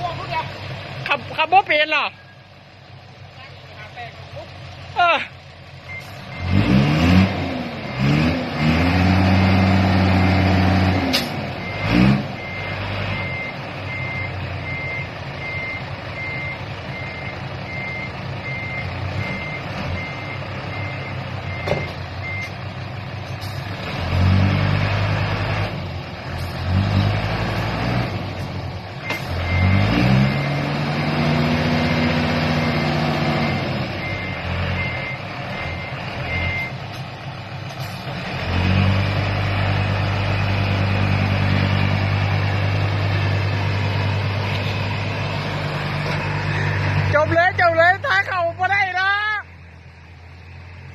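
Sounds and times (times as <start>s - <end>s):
diesel engine revving: 0.0s - 50.9s
truck reversing alarm beeps: 5.2s - 25.7s, 28.9s - 49.5s.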